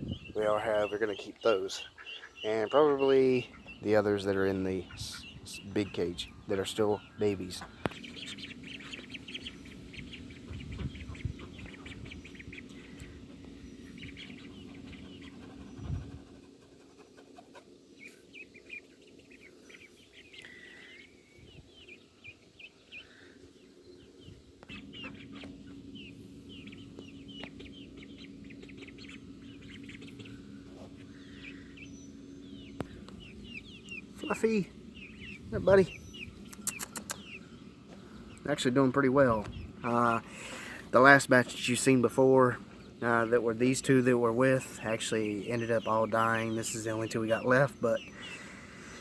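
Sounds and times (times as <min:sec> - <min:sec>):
chicks peeping: 0:00.0 - 0:49.0
steady low hum: 0:00.0 - 0:49.0.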